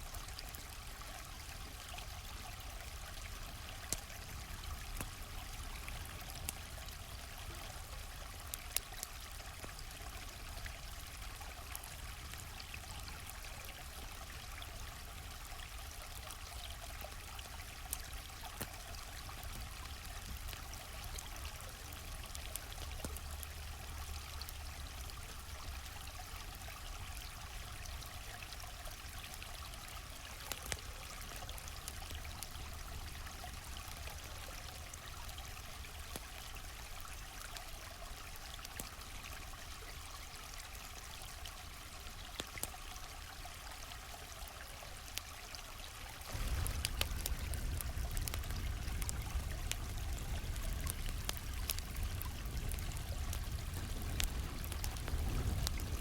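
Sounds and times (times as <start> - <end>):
campfire crackling: 0.0 - 56.0
stream water flowing: 0.0 - 56.0.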